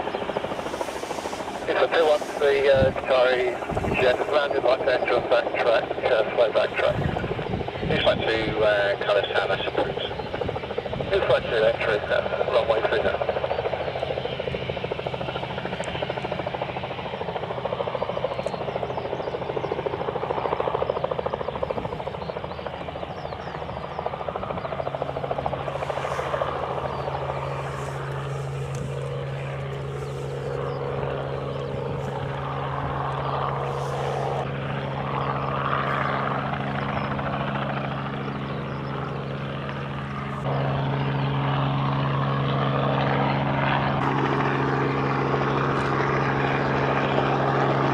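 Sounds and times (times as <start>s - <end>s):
rushing background noise: 0.0s - 19.1s, 20.1s - 42.8s
aircraft engine droning: 0.0s - 47.9s.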